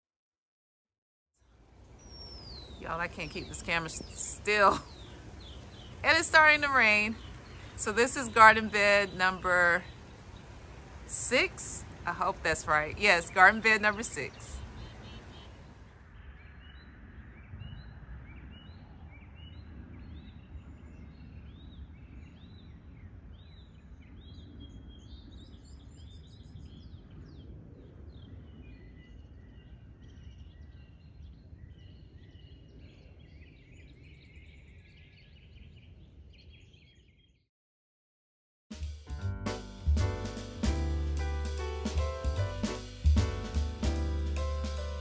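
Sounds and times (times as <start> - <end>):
songbirds chirping: 1.4 - 37.5, 39.5 - 45.0.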